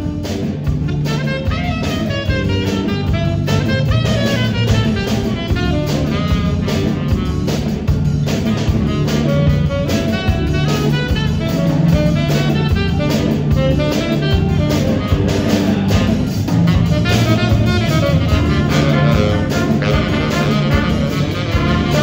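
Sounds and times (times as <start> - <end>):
drum kit and rhythm section: 0.0 - 22.0
saxophone solo: 0.0 - 22.0
trumpets playing: 0.0 - 22.0.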